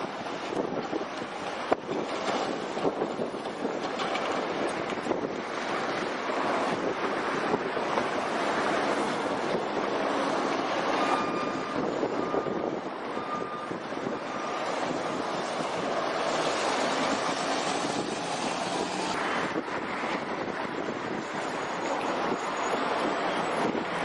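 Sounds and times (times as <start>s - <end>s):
city street traffic: 0.0s - 24.0s
wind on microphone: 0.0s - 24.0s.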